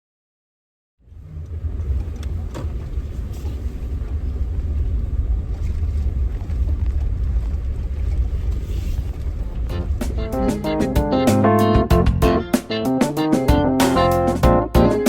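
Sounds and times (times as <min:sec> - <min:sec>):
heavy low rumble: 0:01.0 - 0:15.0.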